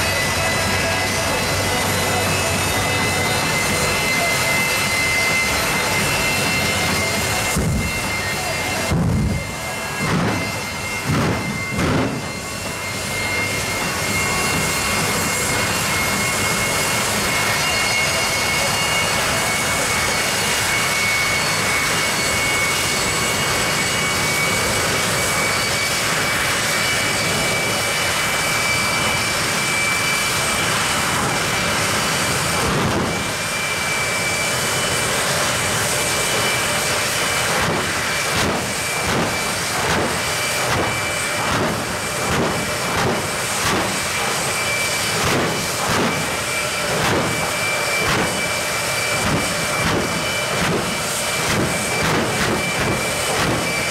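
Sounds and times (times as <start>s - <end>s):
jet engine with turbine whine: 0.0s - 53.9s.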